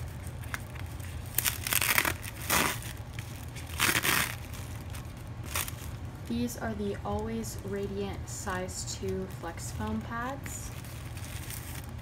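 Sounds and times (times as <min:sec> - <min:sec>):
plastic wrapper crinkling and tearing: 0:00.0 - 0:07.7, 0:08.9 - 0:12.0.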